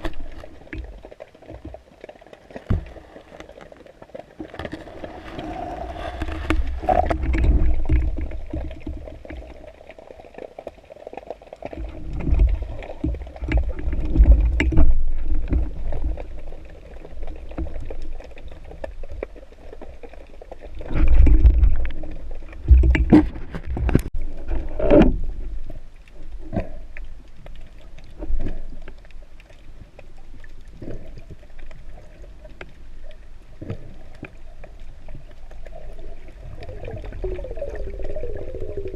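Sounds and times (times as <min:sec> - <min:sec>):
water surging underwater: 0:00.0 - 0:38.9.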